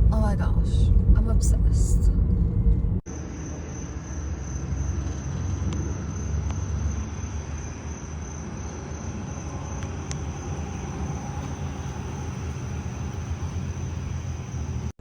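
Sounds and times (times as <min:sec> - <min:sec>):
car engine rumble: 0:00.0 - 0:03.4, 0:04.3 - 0:15.0.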